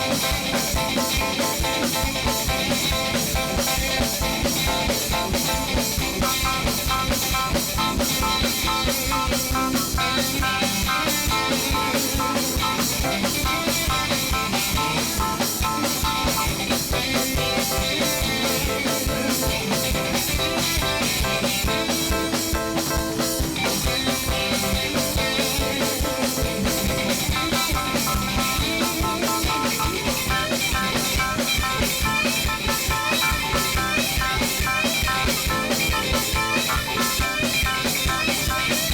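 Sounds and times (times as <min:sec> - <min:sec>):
drum kit beat: 0:00.0 - 0:38.9
electric guitar: 0:00.0 - 0:38.9.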